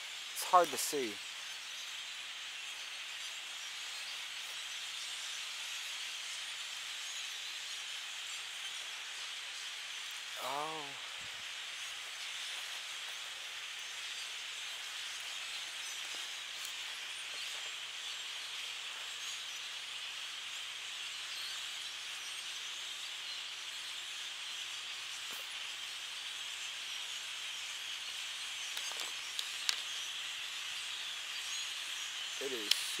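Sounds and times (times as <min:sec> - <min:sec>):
flock of birds calling: 0:00.0 - 0:33.0.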